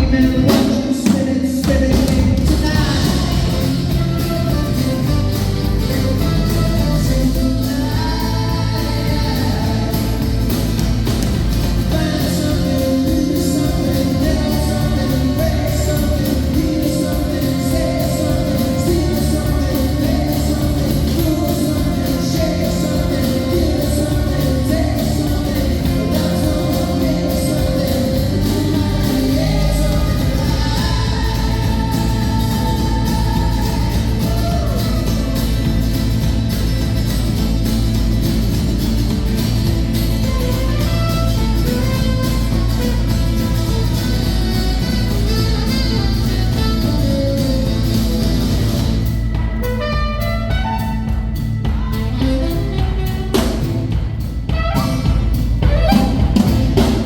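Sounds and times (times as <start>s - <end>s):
person singing: 0.0s - 36.2s, 40.2s - 57.0s
live band with guitar: 0.0s - 57.0s.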